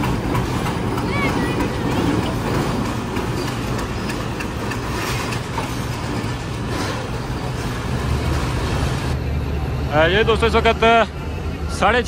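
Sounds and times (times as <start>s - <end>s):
diesel train engine hum: 0.0s - 12.0s
wheel and rail noise: 0.0s - 12.0s.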